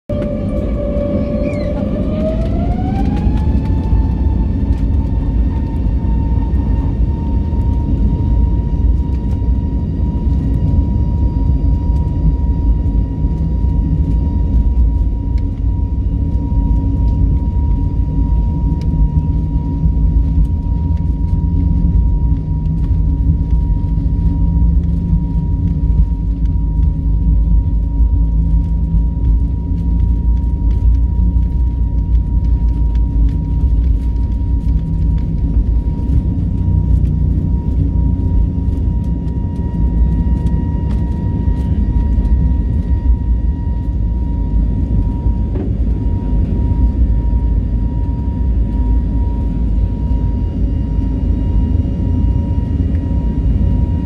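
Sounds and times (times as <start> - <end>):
jet engine whine: 0.0 - 54.0
jet engines rumbling in cabin: 0.0 - 54.0.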